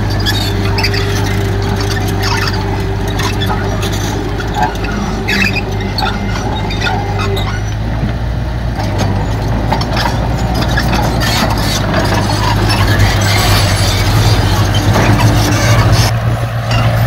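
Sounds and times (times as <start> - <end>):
clanks and rattles: 0.0 - 17.0
diesel engine running: 0.0 - 17.0.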